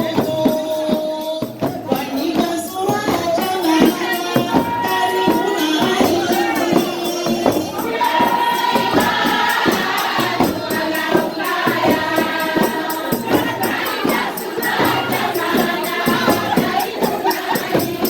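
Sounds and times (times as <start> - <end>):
hand percussion with jingles: 0.0 - 18.0
voices singing in chorus: 0.0 - 18.0.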